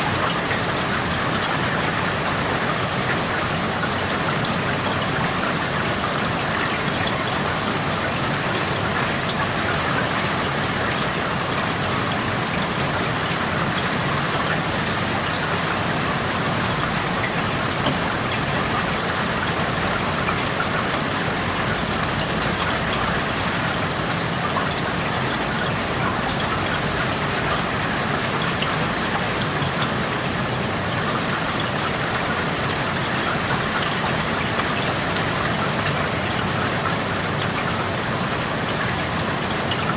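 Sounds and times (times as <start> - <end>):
raindrops pattering on surfaces: 0.0 - 39.9
steady rain hissing: 0.0 - 39.9.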